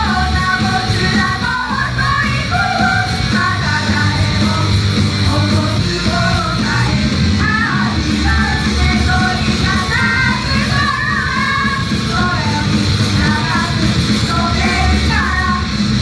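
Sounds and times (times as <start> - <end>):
group singing: 0.0 - 16.0
loud rock music: 0.0 - 16.0.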